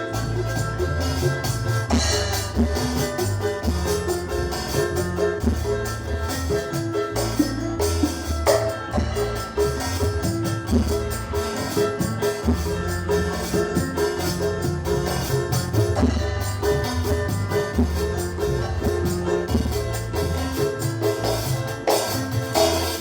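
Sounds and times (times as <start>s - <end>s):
bass line: 0.0s - 23.0s
drums and percussion: 0.0s - 23.0s
melody of short repeated notes: 0.0s - 23.0s.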